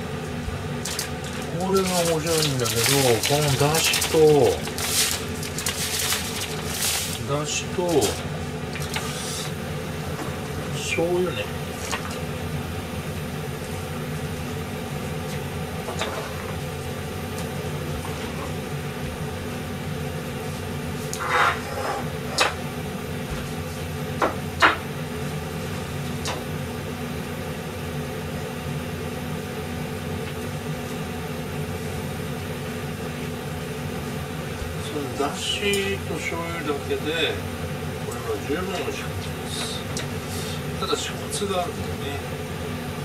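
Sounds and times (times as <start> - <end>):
low kitchen hum: 0.0 - 43.0.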